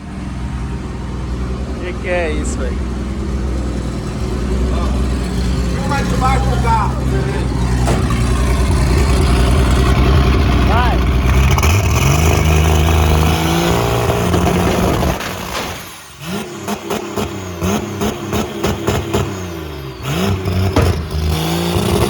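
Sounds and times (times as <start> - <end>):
race car engine revving: 0.0 - 22.0
exhaust pops: 4.0 - 22.0.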